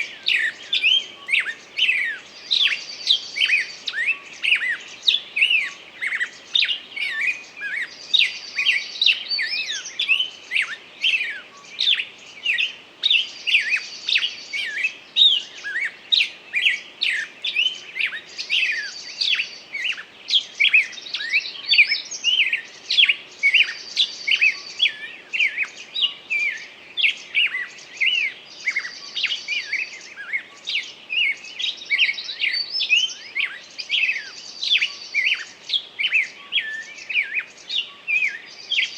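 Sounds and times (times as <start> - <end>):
songbird chirps and whistles: 0.0 - 38.9.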